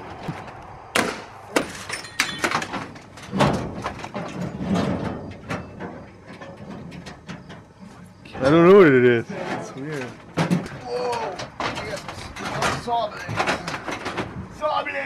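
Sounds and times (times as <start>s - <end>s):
scrap clattering in metal dumpster: 1.6s - 14.4s.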